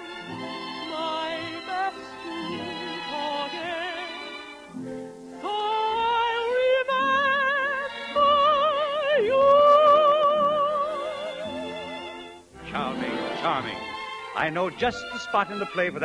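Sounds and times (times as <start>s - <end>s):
operatic singing with vibrato: 0.0s - 4.8s, 5.4s - 16.0s
sustained accompaniment: 0.0s - 16.0s.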